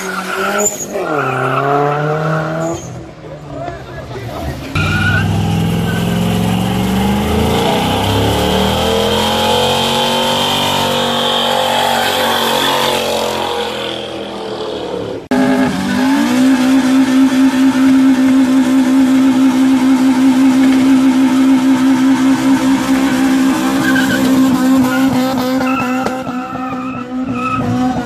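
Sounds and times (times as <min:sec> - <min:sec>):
truck engine revving: 0:04.5 - 0:28.0
car engine at high revs: 0:04.7 - 0:28.0.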